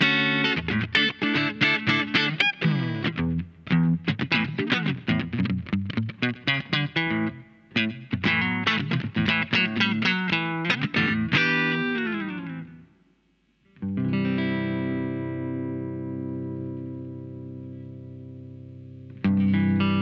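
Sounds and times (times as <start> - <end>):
electric guitar playing: 0.0 - 12.9, 13.8 - 20.0.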